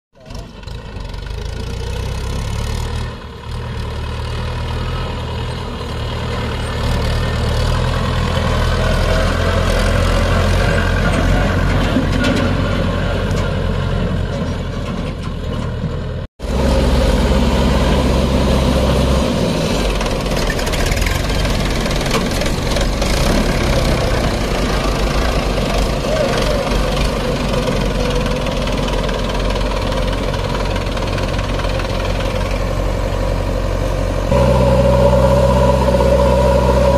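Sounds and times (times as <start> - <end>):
tractor diesel engine running: 0.2 - 36.9.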